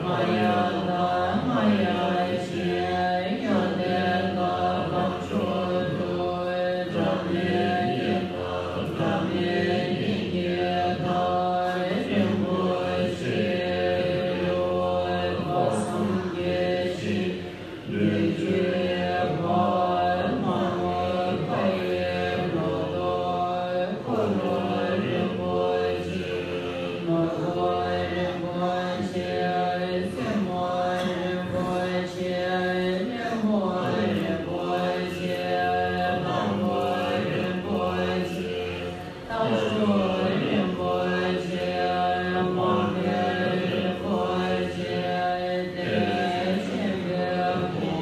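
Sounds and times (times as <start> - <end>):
many voices chanting: 0.0 - 48.0.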